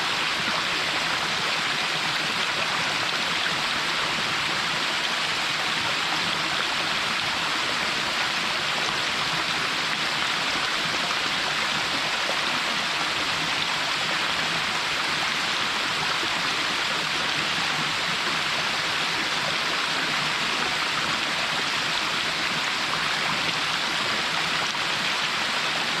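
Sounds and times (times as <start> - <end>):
small waterfall splashing: 0.0 - 26.0.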